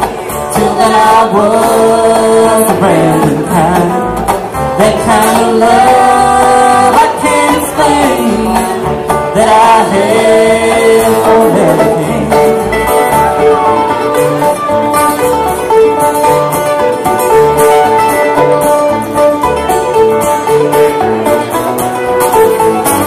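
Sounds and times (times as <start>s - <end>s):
acoustic bluegrass band playing: 0.0s - 23.0s.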